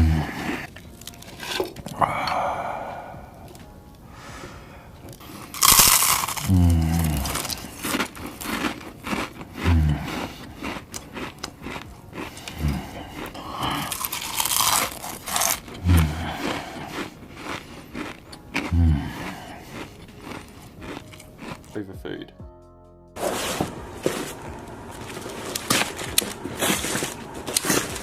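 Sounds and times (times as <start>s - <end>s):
crunchy chewing of food: 0.0s - 3.7s, 5.0s - 21.8s, 23.2s - 28.0s.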